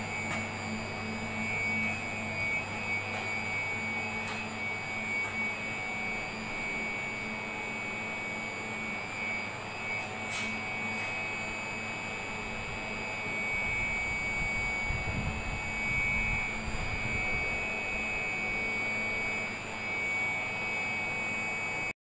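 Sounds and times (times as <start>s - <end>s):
high-pitched electronic whine: 0.0s - 21.9s.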